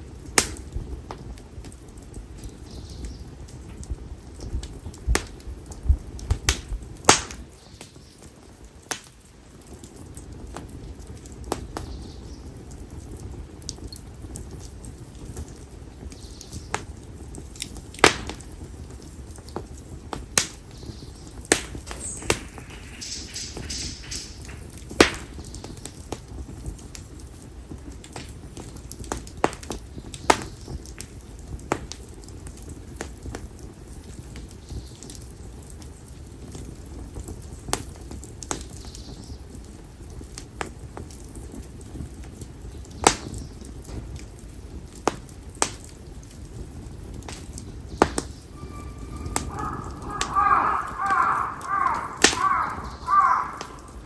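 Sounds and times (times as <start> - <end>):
firewood crackling in open fire: 0.0 - 54.0.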